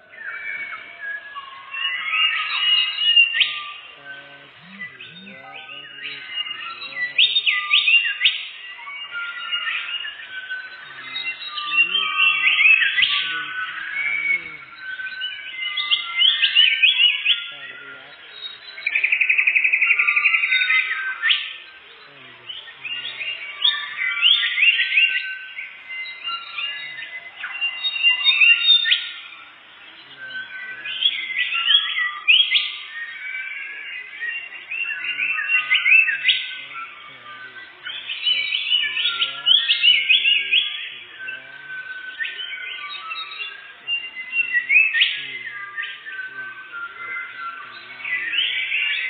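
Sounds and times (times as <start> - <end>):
songbird trilling and whistling: 0.0 - 49.0.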